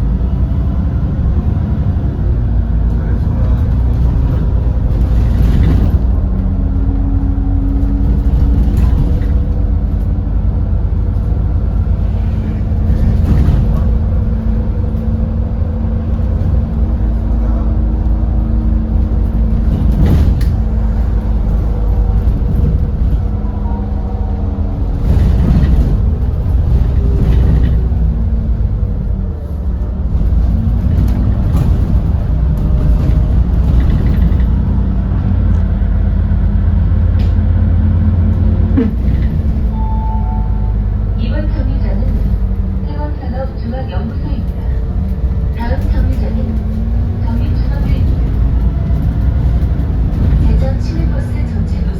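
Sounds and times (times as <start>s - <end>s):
bus engine hum: 0.0s - 51.9s.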